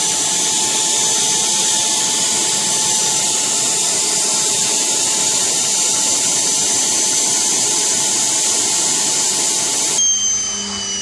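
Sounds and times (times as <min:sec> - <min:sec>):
jet turbine engine whine: 0:00.0 - 0:11.0.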